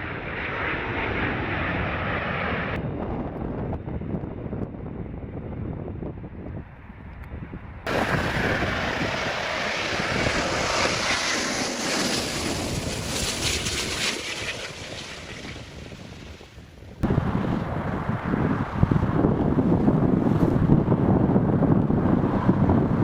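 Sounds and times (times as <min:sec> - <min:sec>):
jet engine rushing: 0:00.0 - 0:03.4, 0:07.9 - 0:23.0
low wind-blown rumble: 0:00.0 - 0:23.0
wind buffeting microphone: 0:02.5 - 0:23.0.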